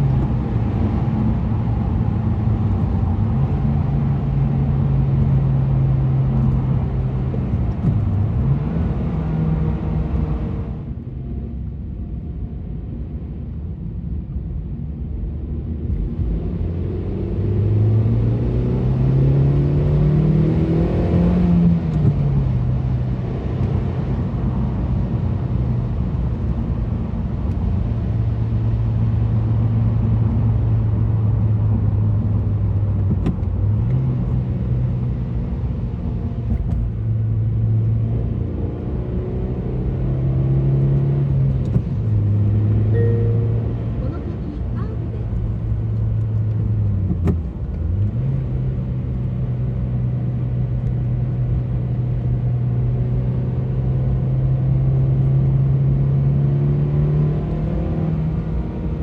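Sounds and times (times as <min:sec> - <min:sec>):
car engine running under load: 0:00.0 - 0:14.2, 0:14.8 - 0:59.0.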